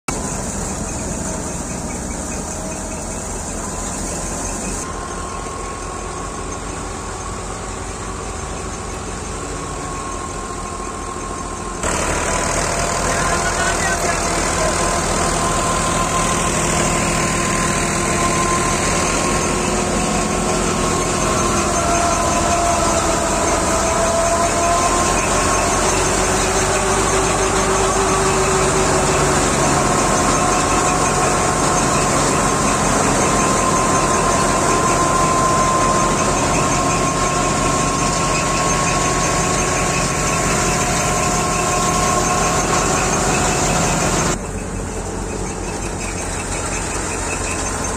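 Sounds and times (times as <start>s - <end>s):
diesel tractor running: 0.0s - 47.9s
thresher whine and rattle: 0.1s - 47.9s.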